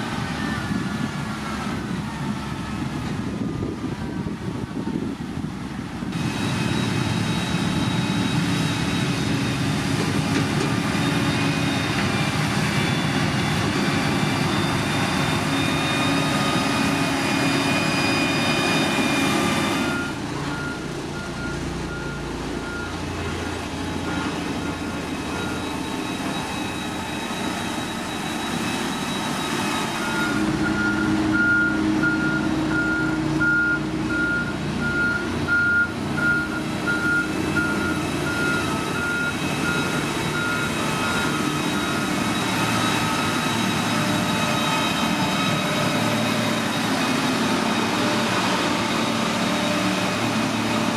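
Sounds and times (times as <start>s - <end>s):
heavy machinery diesel engine: 0.0s - 50.9s
reversing alarm beeping: 6.2s - 50.8s.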